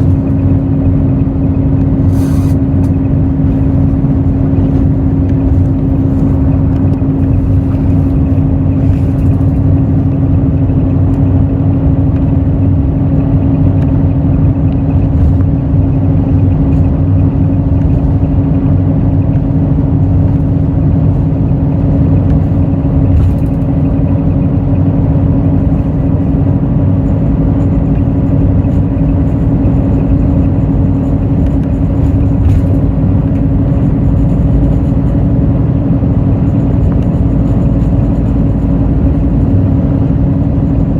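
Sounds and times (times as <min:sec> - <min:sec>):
bus diesel engine hum: 0:00.0 - 0:40.9
road rumble: 0:00.0 - 0:40.9.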